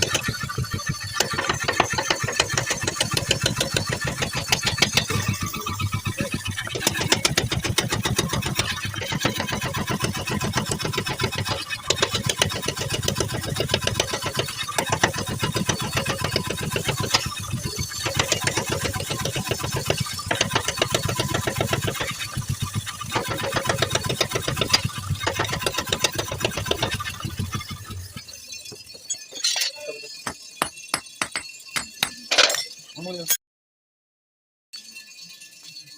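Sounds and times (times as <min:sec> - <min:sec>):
power hammer pounding hot steel: 0:00.0 - 0:29.1, 0:30.2 - 0:32.3.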